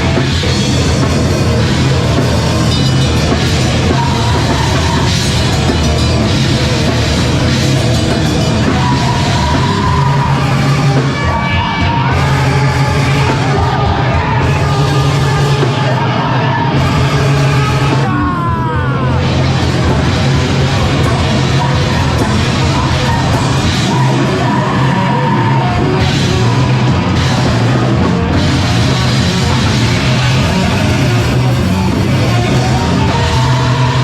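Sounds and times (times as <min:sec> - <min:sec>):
heavy rock band playing: 0:00.0 - 0:34.0
yelled vocals: 0:00.0 - 0:34.0.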